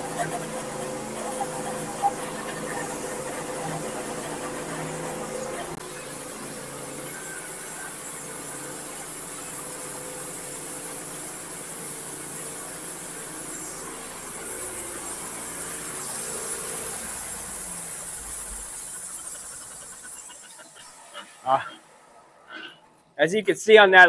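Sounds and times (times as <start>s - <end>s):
band saw blade hissing through wood: 0.0s - 21.9s
sawmill engine humming: 0.0s - 22.8s.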